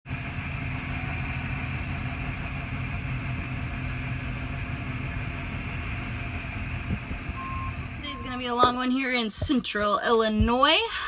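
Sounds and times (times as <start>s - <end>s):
truck engine drone: 0.0s - 9.6s.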